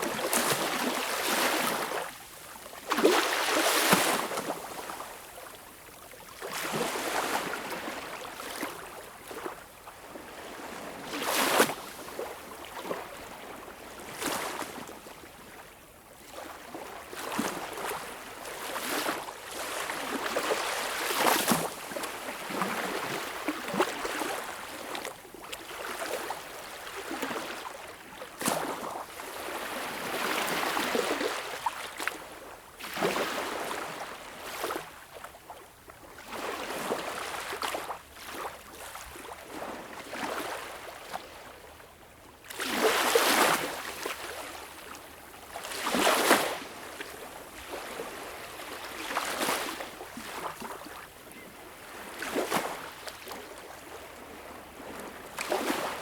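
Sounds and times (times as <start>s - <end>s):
waves lapping at shore: 0.0s - 56.0s.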